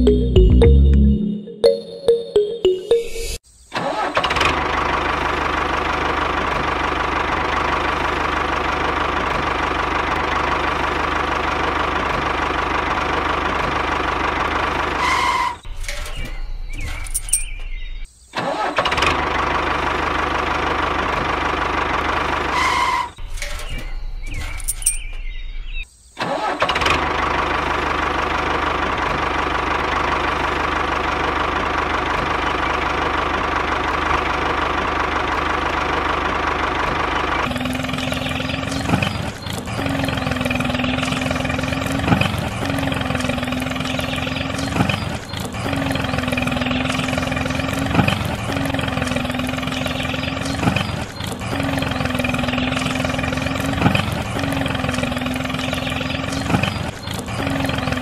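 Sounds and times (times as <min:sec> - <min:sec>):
engine running and sputtering: 0:04.2 - 0:17.5, 0:18.8 - 0:25.1, 0:26.6 - 0:58.0.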